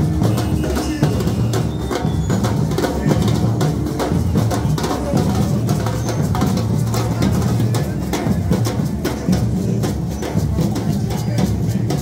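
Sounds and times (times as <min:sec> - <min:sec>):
deep bass drums: 0:00.0 - 0:12.0
rapid drum strokes: 0:00.0 - 0:12.0.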